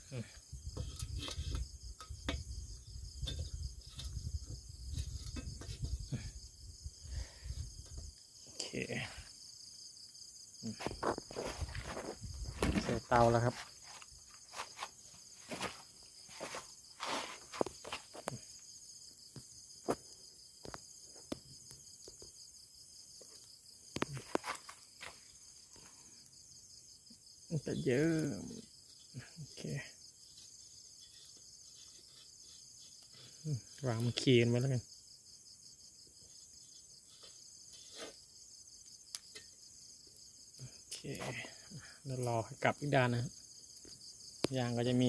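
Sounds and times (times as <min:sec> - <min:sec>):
crickets chirring: 0:00.0 - 0:45.0.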